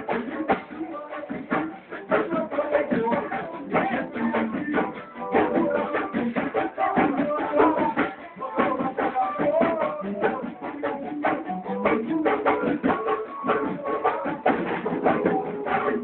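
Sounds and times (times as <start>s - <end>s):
man singing into a microphone: 0.0s - 16.0s
samba band playing: 0.0s - 16.0s.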